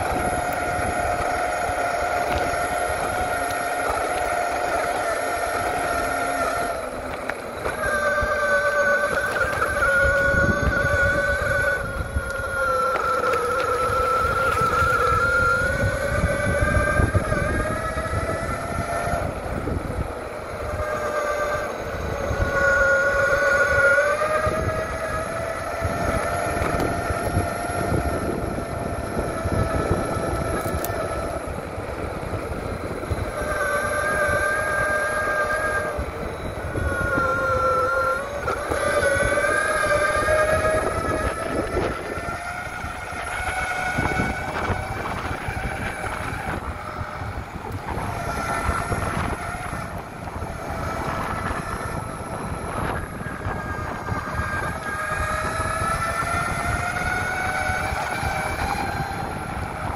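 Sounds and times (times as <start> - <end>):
electric motors whining: 0.0 - 59.9
wheels rolling rumble: 0.0 - 59.9.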